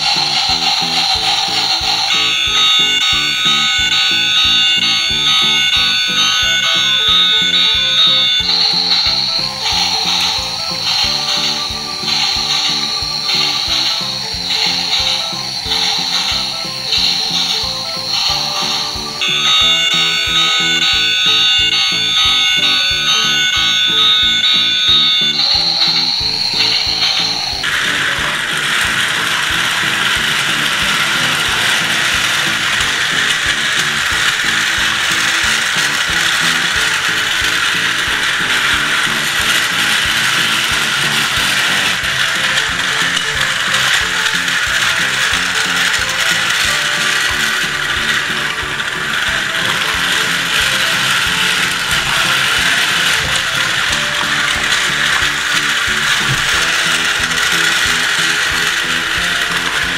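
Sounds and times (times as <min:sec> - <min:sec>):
clicks: 0:00.0 - 0:59.9
simple tinny tune: 0:00.0 - 0:59.9
toy train motor whirring: 0:00.0 - 0:59.9.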